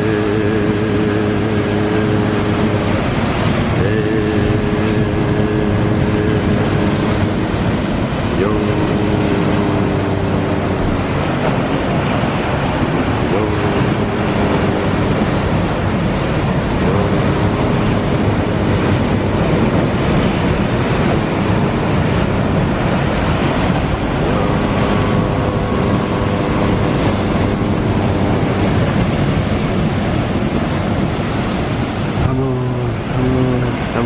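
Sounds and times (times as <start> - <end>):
waves breaking on rocks: 0.0 - 34.0.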